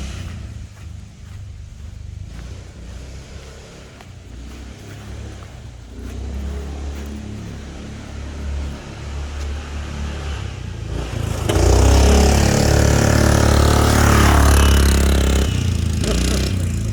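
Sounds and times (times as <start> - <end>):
single-cylinder engine revving: 0.0 - 16.9.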